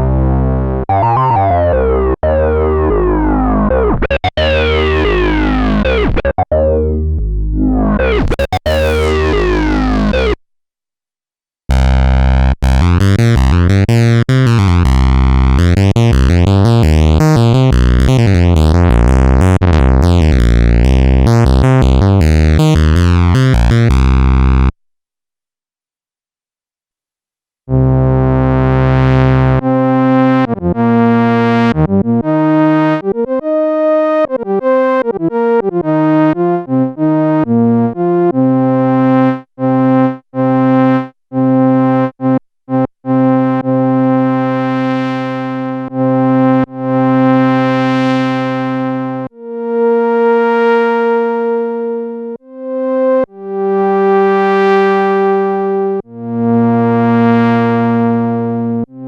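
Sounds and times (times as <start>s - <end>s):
buzzy synthesizer notes: 0.0s - 10.4s, 11.7s - 24.7s, 27.7s - 42.3s, 44.5s - 59.0s.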